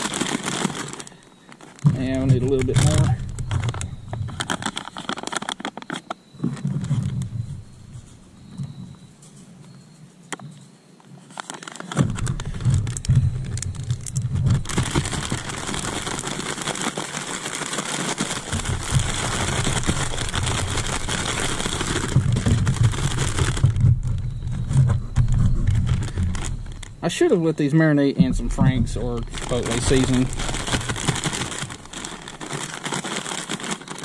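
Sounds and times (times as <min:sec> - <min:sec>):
plastic bag being shaken: 0:00.0 - 0:06.2, 0:11.3 - 0:26.9, 0:28.3 - 0:34.0.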